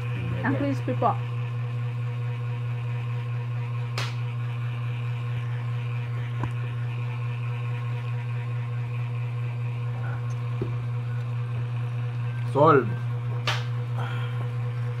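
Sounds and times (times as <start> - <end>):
low hum with faint tones: 0.0 - 15.0.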